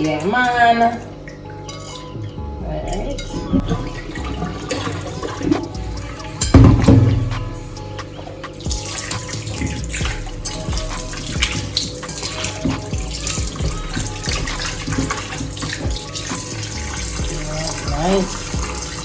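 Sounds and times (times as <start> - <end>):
splashing water: 3.1 - 19.0
tap water running into sink: 3.2 - 19.0.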